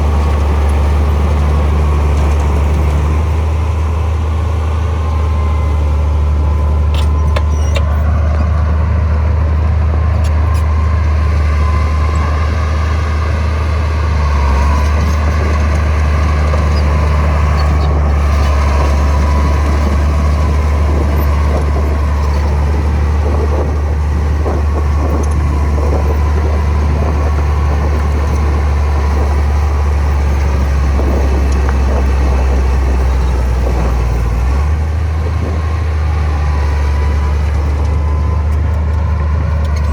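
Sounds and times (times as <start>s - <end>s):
heavy diesel engine drone: 0.0s - 39.9s.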